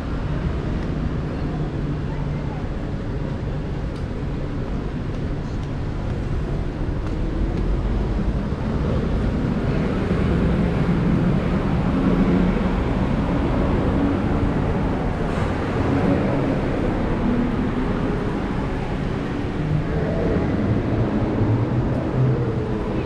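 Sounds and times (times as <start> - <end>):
traffic and engines: 0.0 - 23.0.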